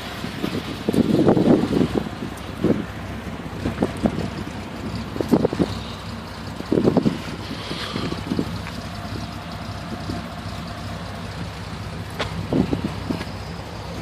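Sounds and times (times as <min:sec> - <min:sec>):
car engine idling: 0:00.0 - 0:14.0
wind buffeting microphone: 0:00.0 - 0:14.0.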